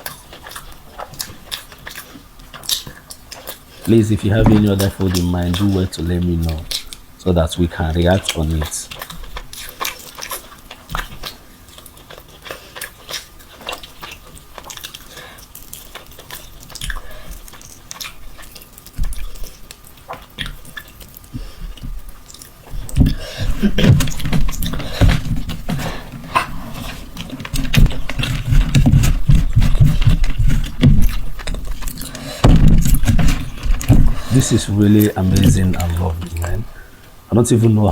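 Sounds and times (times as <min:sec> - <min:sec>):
person chewing food: 0:00.0 - 0:37.3.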